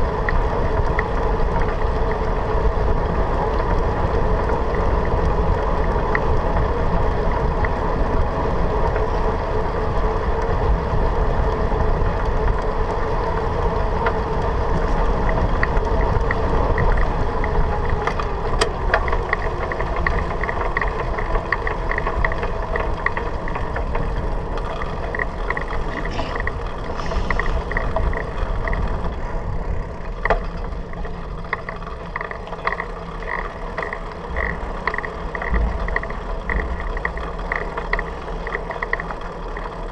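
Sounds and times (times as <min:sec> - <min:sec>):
bicycle tyre noise on asphalt: 0:00.0 - 0:39.9
wind rushing over microphone: 0:00.0 - 0:39.9
light regular ticking: 0:03.5 - 0:39.9.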